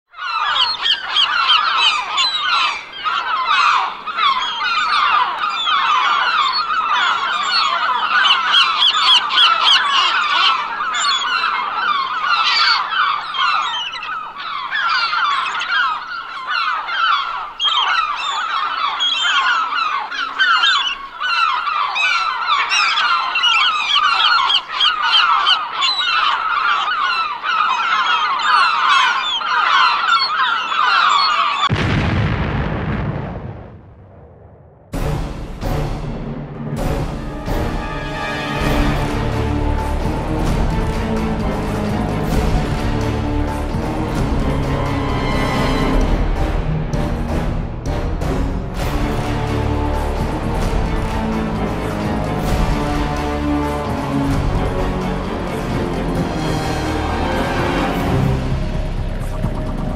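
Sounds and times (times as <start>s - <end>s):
flock of birds calling: 0.1s - 31.7s, 37.2s - 46.6s, 48.9s - 59.9s.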